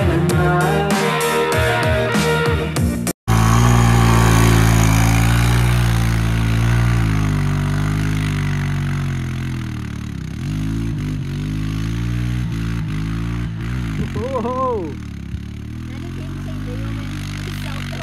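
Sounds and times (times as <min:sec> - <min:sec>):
quad bike engine revving: 0:00.0 - 0:02.4, 0:03.3 - 0:18.0.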